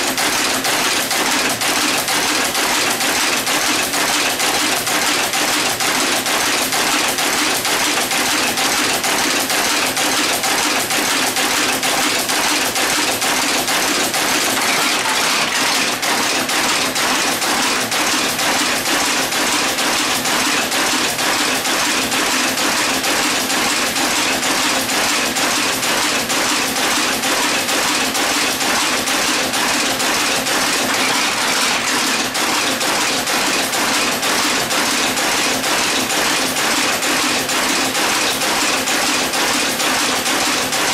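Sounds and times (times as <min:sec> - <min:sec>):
machine mechanical clatter: 0:00.0 - 0:40.9.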